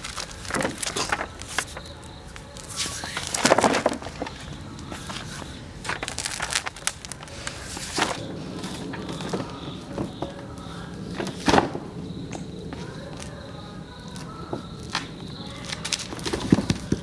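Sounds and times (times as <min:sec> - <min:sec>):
stone rolling over paper sheets: 0:00.0 - 0:13.4, 0:14.0 - 0:17.0.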